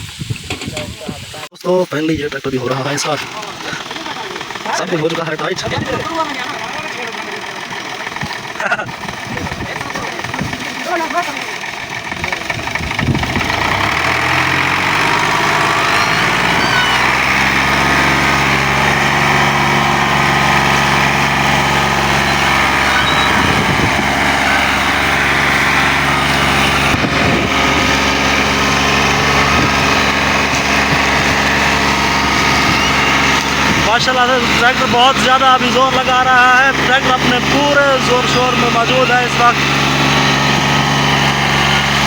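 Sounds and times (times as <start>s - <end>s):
tractor diesel engine under load: 0.1s - 42.0s.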